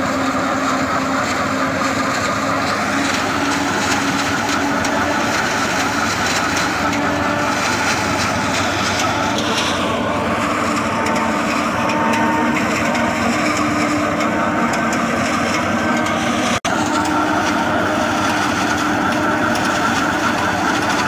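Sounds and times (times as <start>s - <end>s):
forage harvester chopping maize: 0.0s - 21.0s
tractor diesel engine under load: 0.0s - 21.0s.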